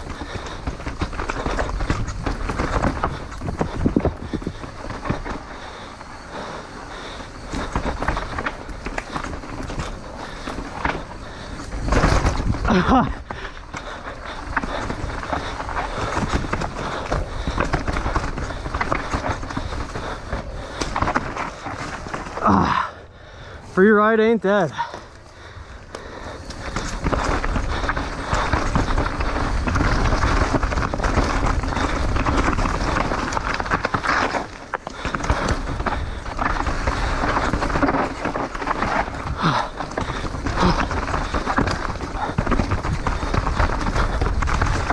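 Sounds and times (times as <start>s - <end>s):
bike and chain rattling: 0.0s - 44.9s
tires on dirt and rock: 0.0s - 44.9s.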